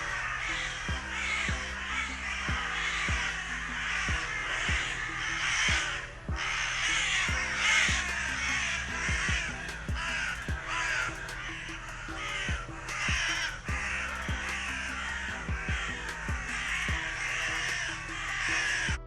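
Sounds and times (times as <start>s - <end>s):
background music with beat: 0.0s - 19.0s
crows cawing: 0.0s - 19.0s.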